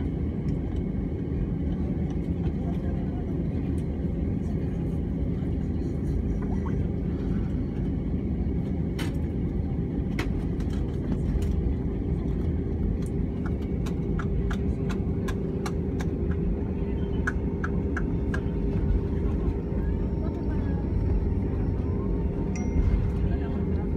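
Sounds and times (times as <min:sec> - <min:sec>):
aircraft engines and wheels rumbling: 0:00.0 - 0:23.9
steady cabin hum: 0:00.0 - 0:23.9.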